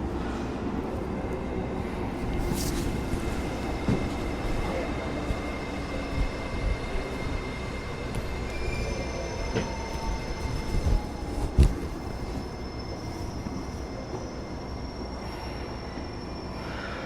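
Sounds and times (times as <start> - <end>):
train carriage low noise: 0.0 - 17.0.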